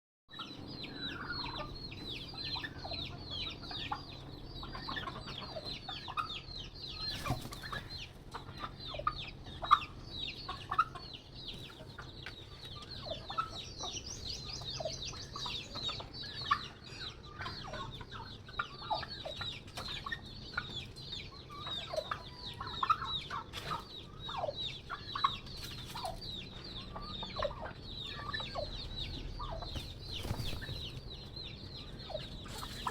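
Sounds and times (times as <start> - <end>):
turkeys and hens calling: 0.3 - 32.9
hens clucking and squawking: 0.4 - 32.9.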